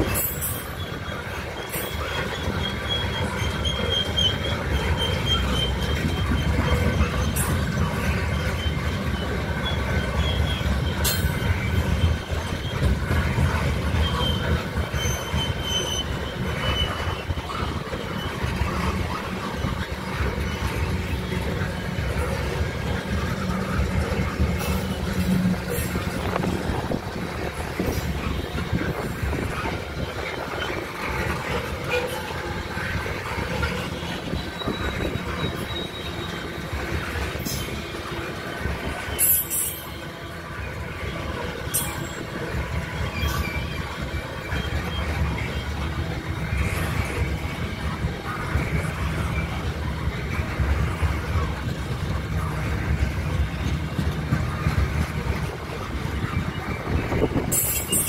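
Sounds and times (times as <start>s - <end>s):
high wheel squeal: 0.0s - 40.1s, 40.7s - 46.2s, 56.1s - 58.0s
train wheels rumbling on rail: 0.0s - 58.0s.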